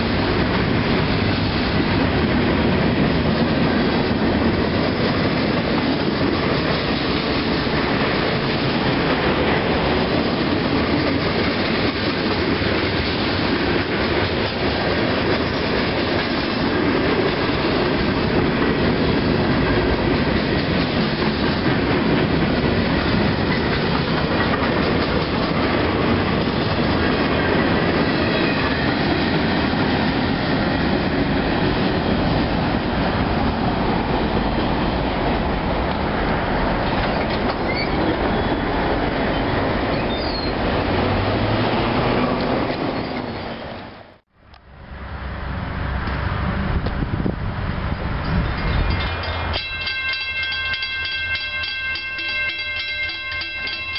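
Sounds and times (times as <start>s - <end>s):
train wheels rolling on track: 0.0s - 53.9s.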